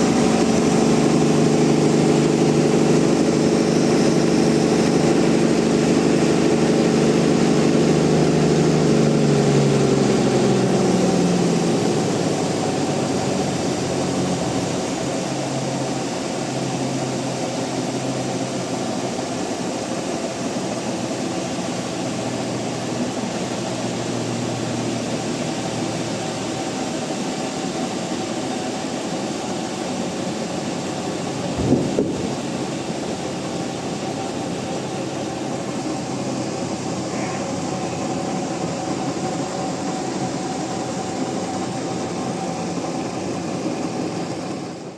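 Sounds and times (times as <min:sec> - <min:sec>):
sawmill machinery drone: 0:00.0 - 0:44.9.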